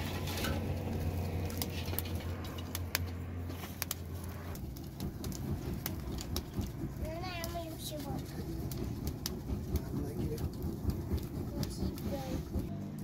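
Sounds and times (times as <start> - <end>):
fire crackling and popping: 0.0 - 13.0
steady low hum: 0.0 - 13.0.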